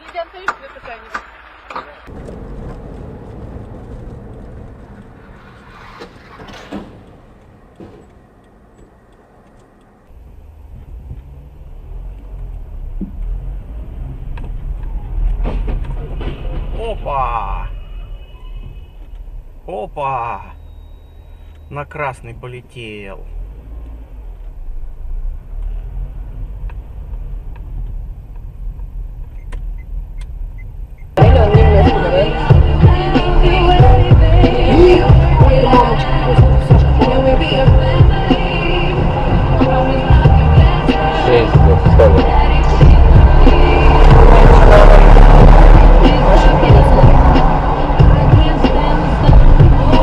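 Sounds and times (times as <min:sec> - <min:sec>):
car road and engine noise: 0:00.0 - 0:50.0.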